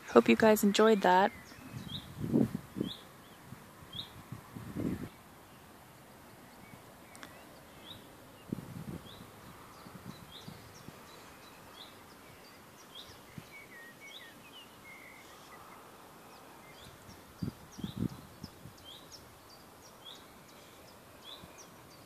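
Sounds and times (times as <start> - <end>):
outdoor hiss: 0.0 - 22.0
bird chirping: 0.4 - 4.2, 6.3 - 22.0.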